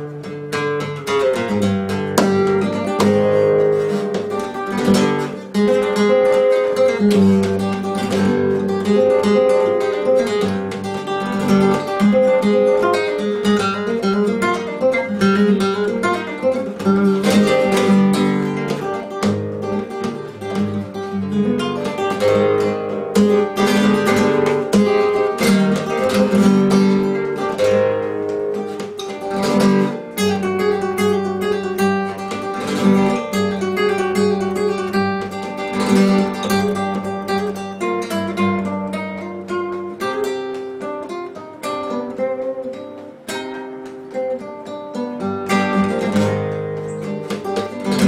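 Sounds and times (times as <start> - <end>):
acoustic guitar plucked notes: 0.0 - 48.0
acoustic guitar strummed chords: 0.0 - 48.0.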